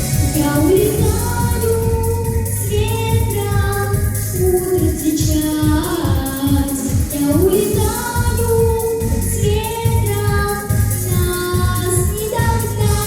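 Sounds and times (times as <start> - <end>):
backing track with steady beat: 0.0 - 13.0.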